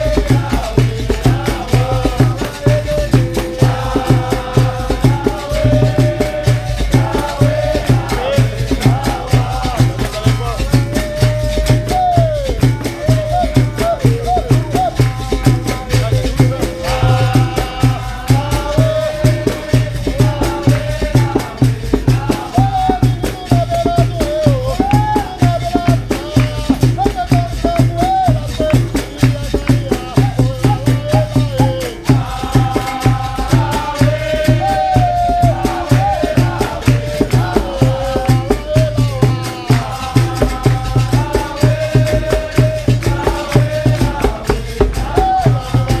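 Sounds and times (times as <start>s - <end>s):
group chorus singing: 0.0s - 46.0s
percussion rhythm: 0.0s - 46.0s
person singing: 0.0s - 46.0s
shaker rattle: 0.0s - 46.0s.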